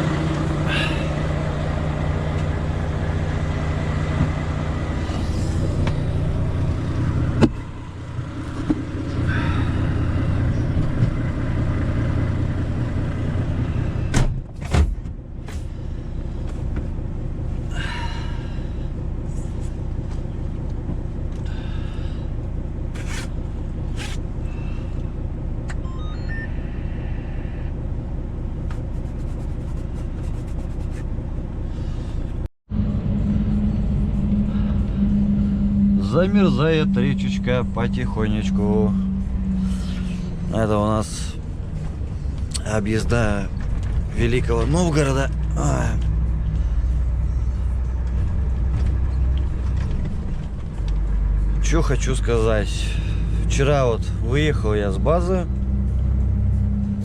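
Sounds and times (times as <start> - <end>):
road noise: 0.0 - 57.0
truck engine drone: 0.0 - 57.0.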